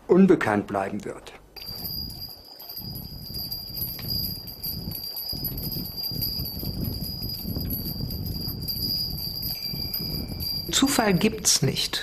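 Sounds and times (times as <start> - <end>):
small bells jingling: 1.6 - 11.7
wind rumble: 1.6 - 11.7.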